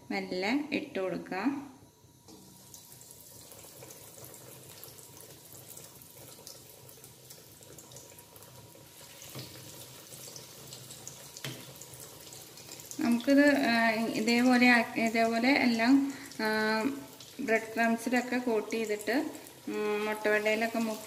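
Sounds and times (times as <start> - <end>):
meat sizzling in hot oil: 2.3 - 21.0.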